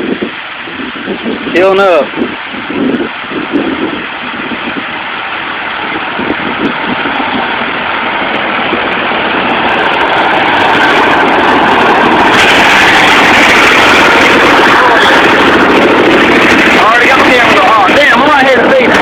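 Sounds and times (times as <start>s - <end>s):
tractor engine: 0.0s - 19.0s.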